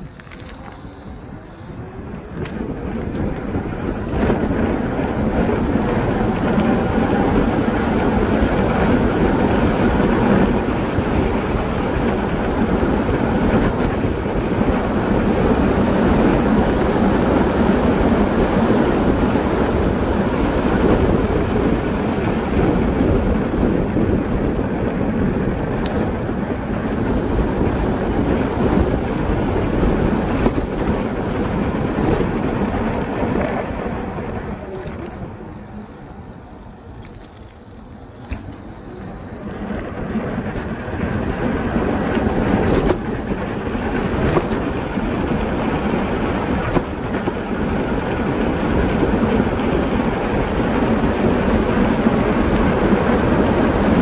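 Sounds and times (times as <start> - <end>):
tyre noise on asphalt: 0.0 - 54.0
wind rushing over microphone: 0.0 - 54.0.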